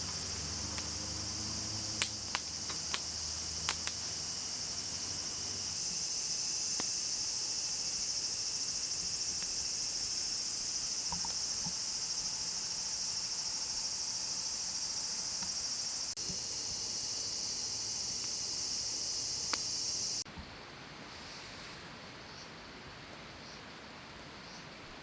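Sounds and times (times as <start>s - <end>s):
crickets trilling: 0.0s - 20.2s.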